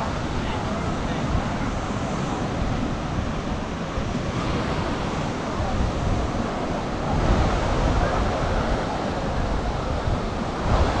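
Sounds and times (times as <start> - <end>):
sea waves washing onto beach: 0.0 - 11.0
wind buffeting microphone: 0.0 - 11.0.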